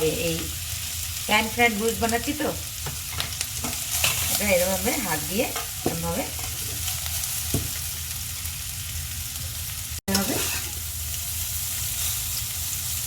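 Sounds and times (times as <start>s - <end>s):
noodles sizzling in a pan: 0.0s - 13.0s.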